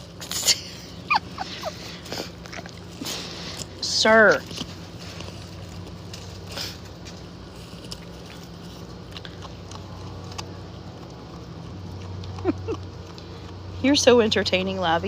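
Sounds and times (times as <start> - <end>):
small animal chewing vegetable: 0.0 - 14.8
steady low hum: 0.0 - 15.0.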